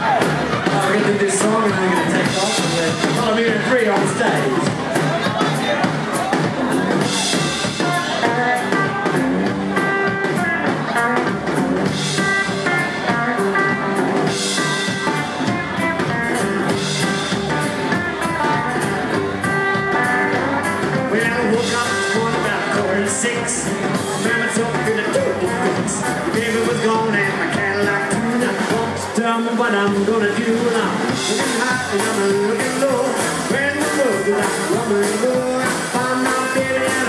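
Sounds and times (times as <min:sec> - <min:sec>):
rockabilly band playing: 0:00.0 - 0:37.0.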